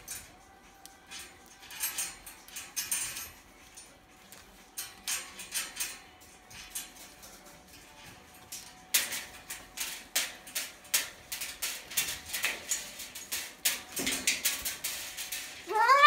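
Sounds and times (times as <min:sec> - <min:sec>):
beak and claws on metal cage: 0:00.0 - 0:16.0.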